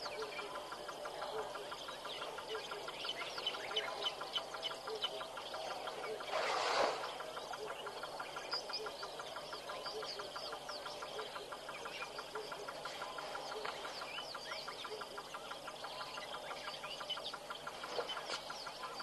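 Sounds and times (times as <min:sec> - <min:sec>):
rapid pulsing call: 0:00.0 - 0:19.0
small birds chirping: 0:00.0 - 0:19.0.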